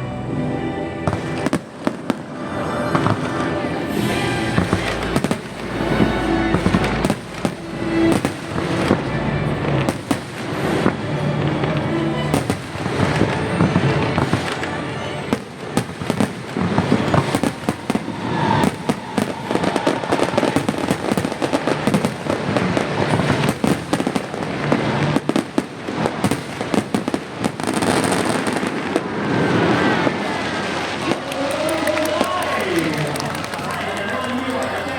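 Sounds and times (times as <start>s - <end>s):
music playing: 0.0s - 34.9s
fireworks bangs and crackling: 1.0s - 34.9s.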